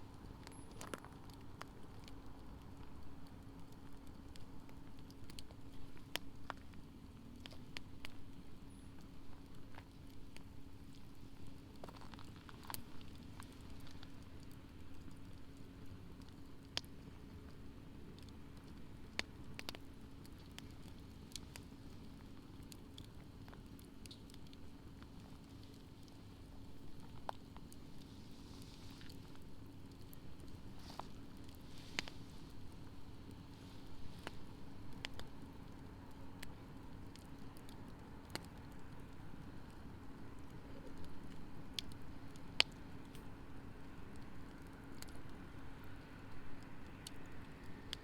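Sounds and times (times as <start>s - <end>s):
campfire crackling and popping: 0.0s - 48.0s
low steady rumble: 0.0s - 48.0s.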